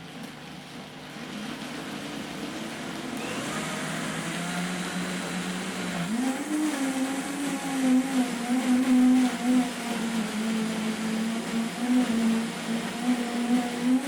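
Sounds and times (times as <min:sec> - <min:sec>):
blender motor whine: 0:02.0 - 0:14.0.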